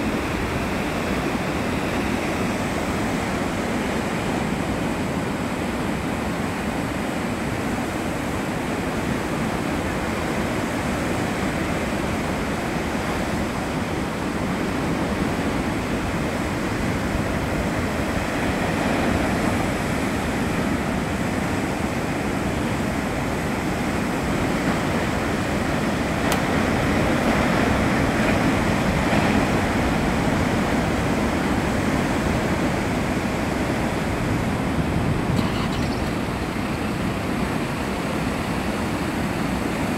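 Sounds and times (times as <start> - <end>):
heavy surf breaking: 0.0 - 39.9.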